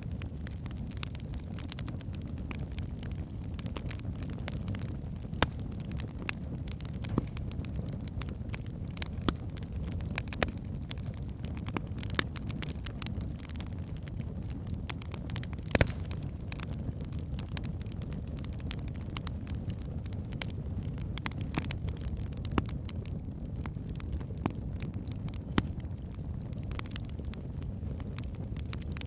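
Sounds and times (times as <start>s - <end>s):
logs crackling and popping: 0.0s - 29.0s
low rumble of flames: 0.0s - 29.0s.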